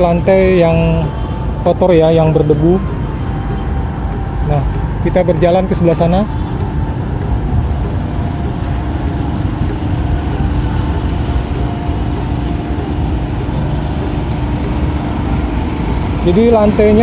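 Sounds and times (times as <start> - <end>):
engine running with low rumble: 0.0 - 17.0.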